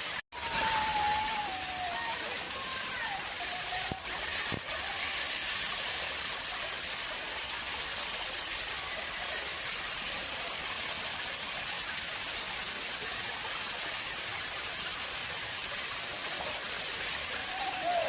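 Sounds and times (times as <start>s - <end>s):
water flowing in a pond: 0.0s - 18.0s.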